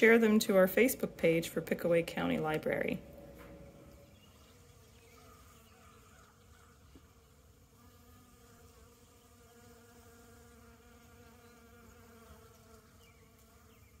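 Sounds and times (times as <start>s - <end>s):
bee buzzing: 0.0s - 14.0s.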